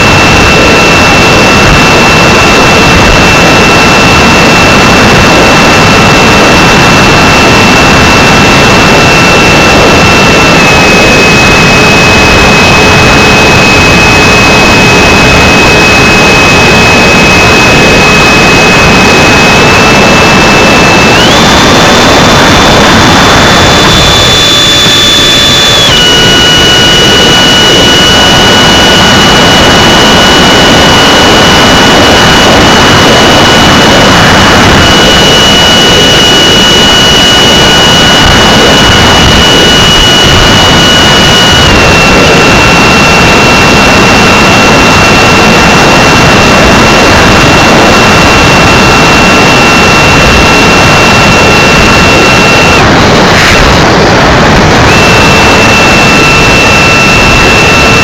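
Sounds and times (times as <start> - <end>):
high motor whine: 0.0 - 58.0
propeller and wind rush: 0.0 - 58.0.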